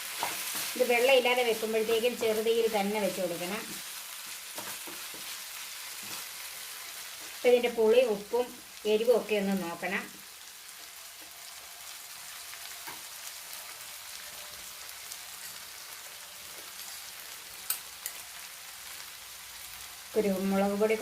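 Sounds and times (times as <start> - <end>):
curry sizzling in a pan: 0.0 - 21.0.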